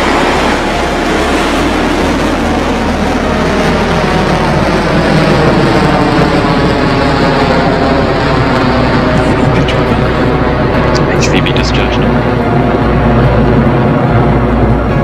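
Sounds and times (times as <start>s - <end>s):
loud rocket engine noise: 0.0s - 15.0s.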